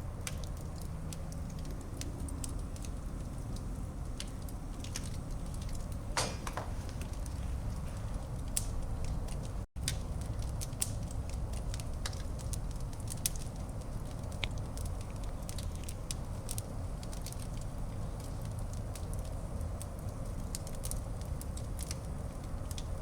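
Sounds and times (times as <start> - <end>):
logs crackling and popping: 0.0 - 23.0
low rumble of flames: 0.0 - 23.0.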